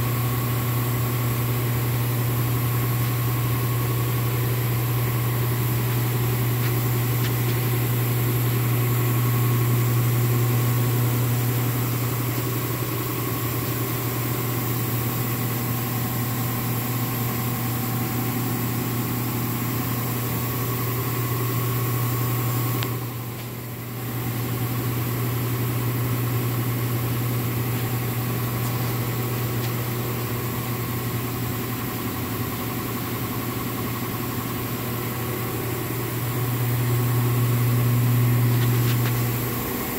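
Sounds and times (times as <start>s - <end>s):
ventilation fans humming: 0.0s - 39.9s.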